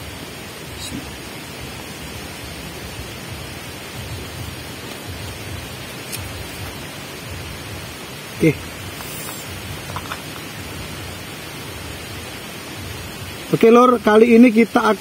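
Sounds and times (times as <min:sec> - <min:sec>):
wind rushing through fronds: 0:00.0 - 0:15.0.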